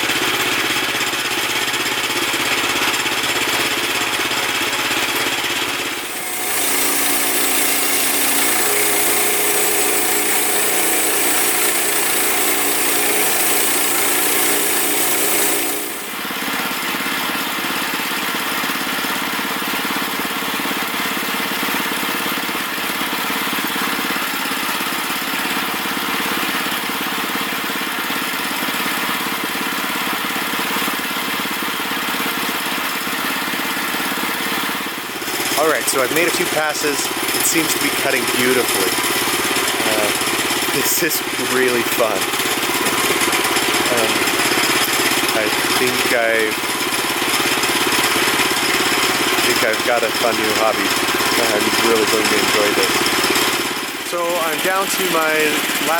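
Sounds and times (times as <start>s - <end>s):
band sawmill cutting log: 0.0s - 55.9s
sawmill engine running: 0.0s - 55.9s.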